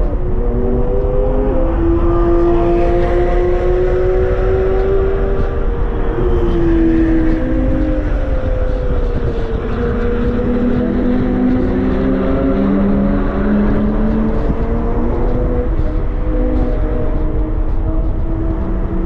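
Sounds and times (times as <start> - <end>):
car engine at speed: 0.0 - 19.0
road and wind rumble: 0.0 - 19.0.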